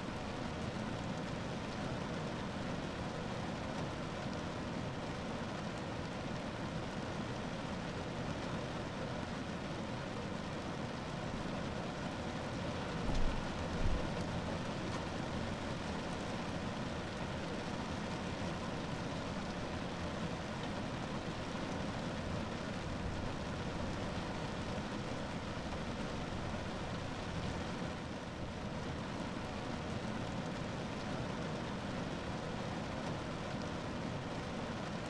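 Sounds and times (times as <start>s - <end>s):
rain on a car roof: 0.0s - 35.0s.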